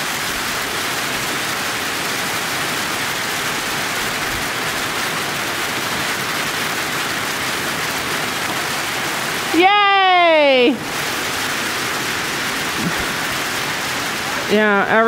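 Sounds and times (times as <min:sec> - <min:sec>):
freezing rain hissing: 0:00.0 - 0:15.0.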